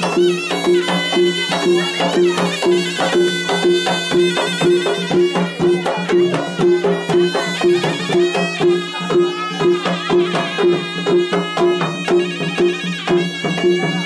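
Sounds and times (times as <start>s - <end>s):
drum beat: 0.0s - 14.0s
reedy wind instrument melody: 0.0s - 14.0s.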